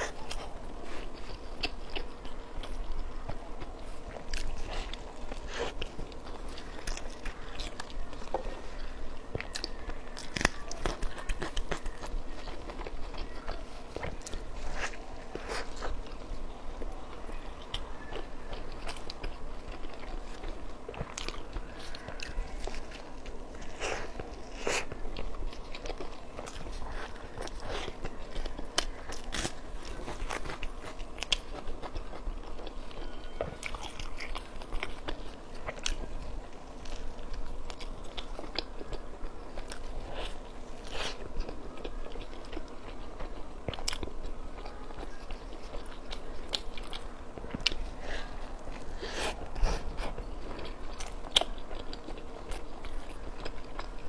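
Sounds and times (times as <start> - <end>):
person chewing bun: 0.0 - 54.0.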